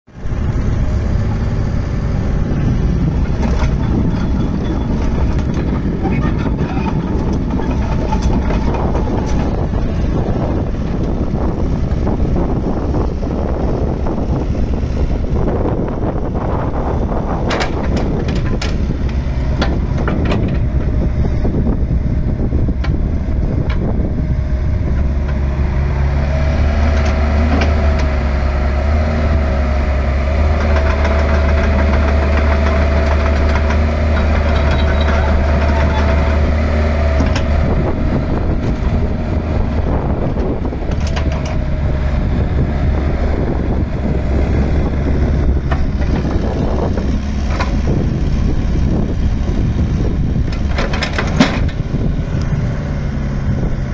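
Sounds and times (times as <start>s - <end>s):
diesel engine running: 0.1s - 53.9s.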